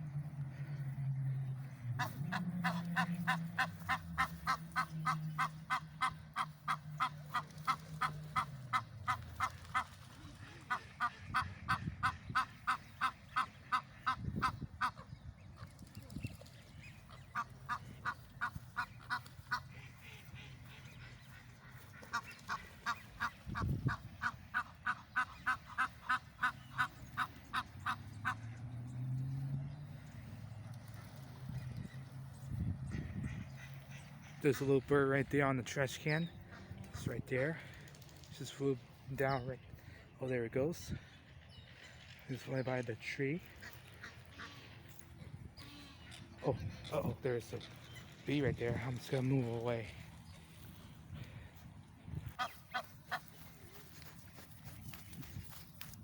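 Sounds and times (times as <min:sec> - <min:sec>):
geese honking: 0:00.1 - 0:15.1, 0:16.7 - 0:56.0.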